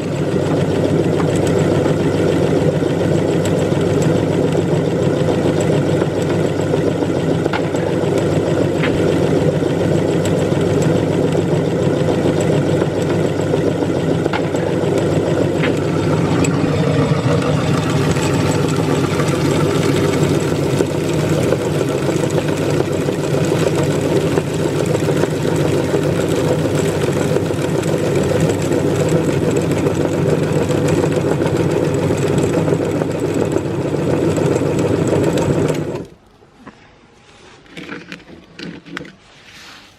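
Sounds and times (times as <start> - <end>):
electric meat grinder running: 0.0 - 36.1.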